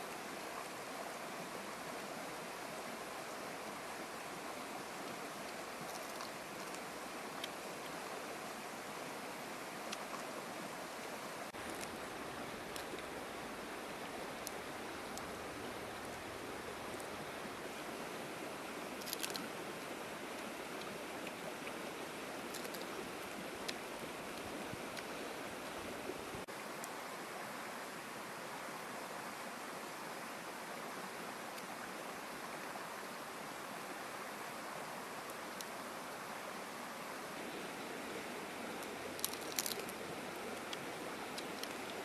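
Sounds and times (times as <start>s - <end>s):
rushing outdoor background noise: 0.0s - 42.0s.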